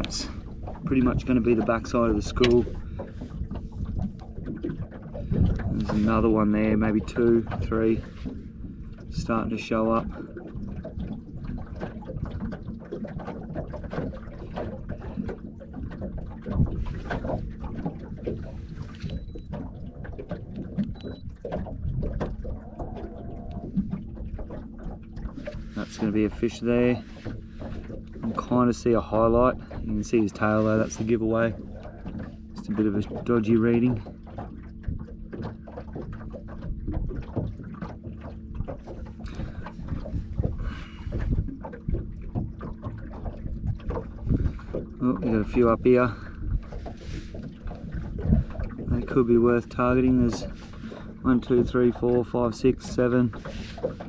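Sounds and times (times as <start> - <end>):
water lapping against hull: 0.0 - 54.0.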